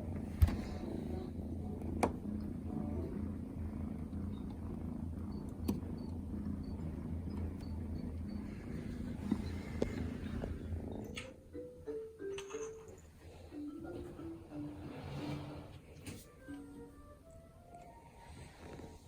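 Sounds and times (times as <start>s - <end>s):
cat purring: 0.0s - 11.6s, 12.7s - 19.0s.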